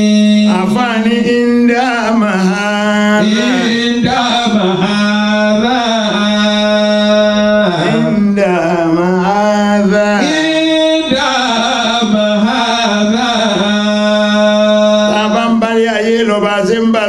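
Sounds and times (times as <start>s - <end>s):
man chanting devotional song: 0.0s - 17.0s.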